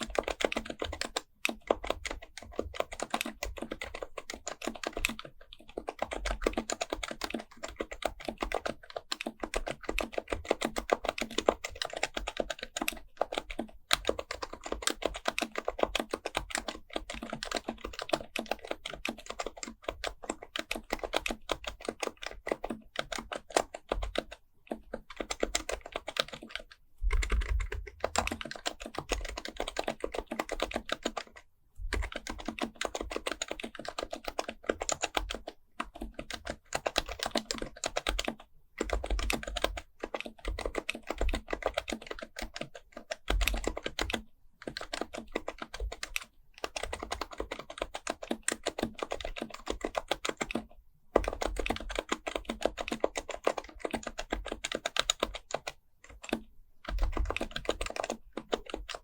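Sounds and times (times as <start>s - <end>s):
fast keyboard typing: 0.0s - 59.0s.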